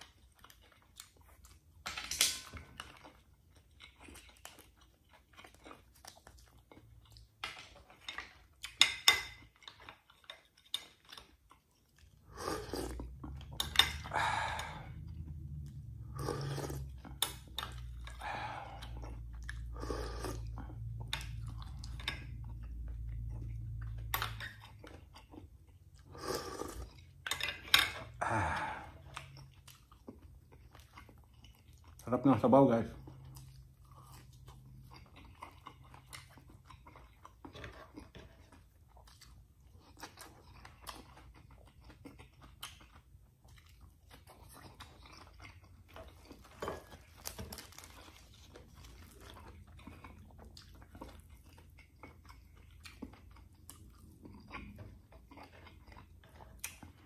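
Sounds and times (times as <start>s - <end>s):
person chewing and smacking: 0.0s - 57.0s
low steady hum: 10.8s - 57.0s.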